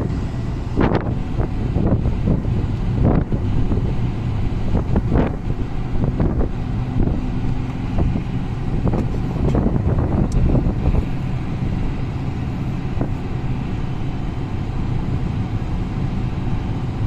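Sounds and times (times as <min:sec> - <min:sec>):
road and engine rumble: 0:00.0 - 0:17.0
wind noise: 0:00.0 - 0:17.0.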